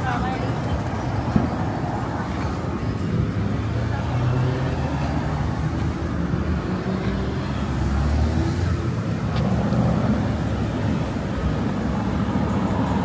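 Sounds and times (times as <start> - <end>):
car engines rumbling: 0.0 - 13.0
passing traffic: 0.0 - 13.0.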